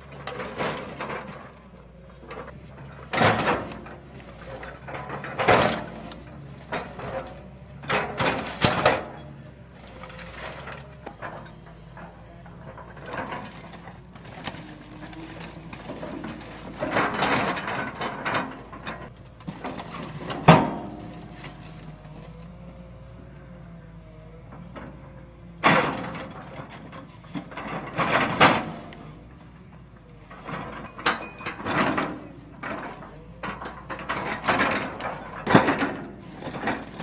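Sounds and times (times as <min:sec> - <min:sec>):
excavator engine hum: 0:00.0 - 0:37.0
metal scraping and creaking: 0:00.0 - 0:37.0.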